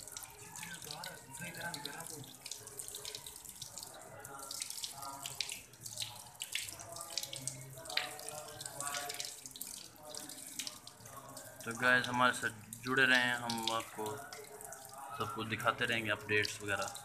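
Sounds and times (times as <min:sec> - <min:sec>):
tap water splashing on concrete: 0:00.0 - 0:15.1.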